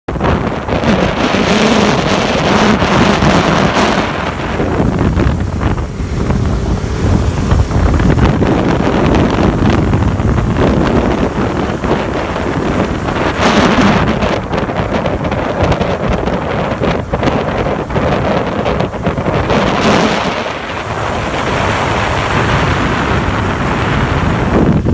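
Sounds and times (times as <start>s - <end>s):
wind rushing over microphone: 0.1s - 24.9s
motorbike engine running: 0.4s - 24.9s.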